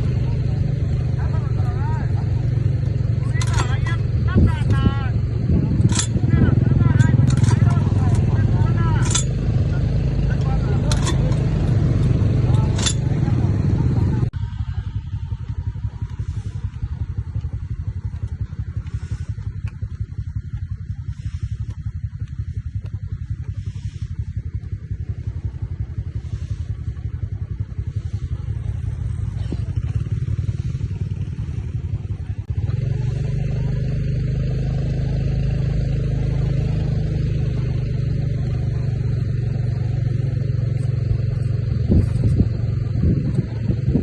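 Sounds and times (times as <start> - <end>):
engine running with fast pulse: 0.0 - 44.0.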